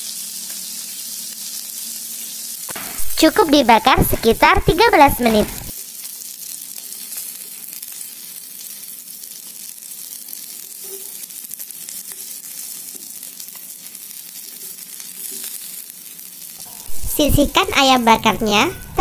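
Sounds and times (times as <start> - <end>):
chicken sizzling on grill pan: 0.0 - 19.0.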